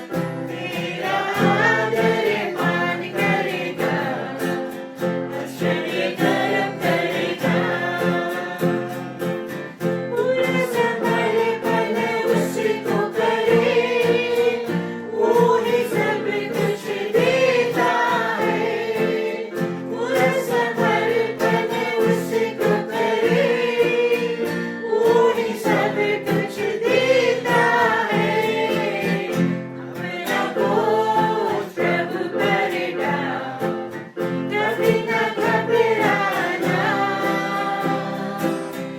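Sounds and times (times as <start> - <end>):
group singing worship song: 0.0 - 38.9
guitar accompaniment: 0.0 - 38.9.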